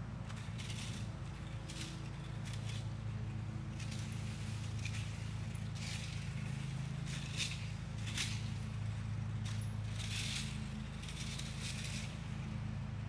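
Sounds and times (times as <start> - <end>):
dry leaves rustling and scraping: 0.2 - 13.0.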